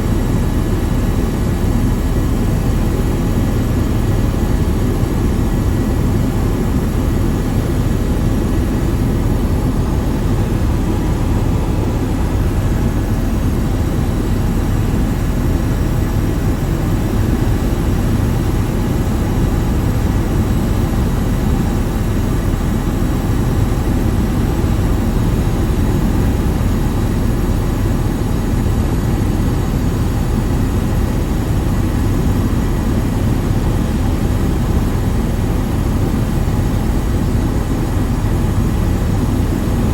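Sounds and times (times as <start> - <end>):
aircraft drone: 0.0 - 39.9.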